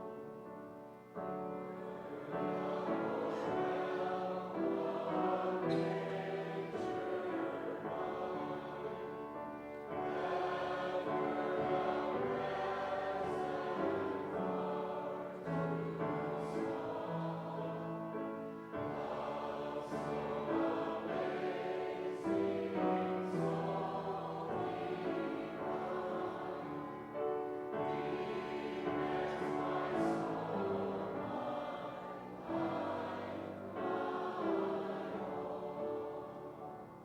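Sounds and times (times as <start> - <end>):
congregation singing a hymn: 0.0 - 37.0.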